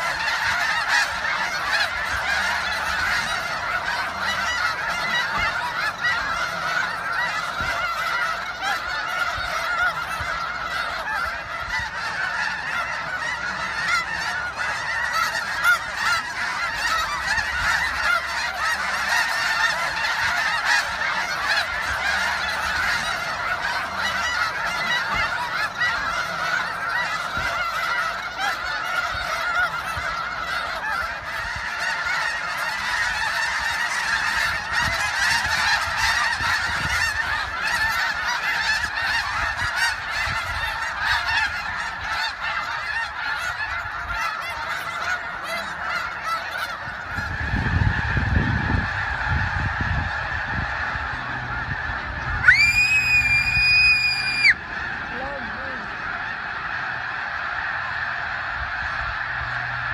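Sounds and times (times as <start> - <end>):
flock of geese honking: 0.0 - 59.9.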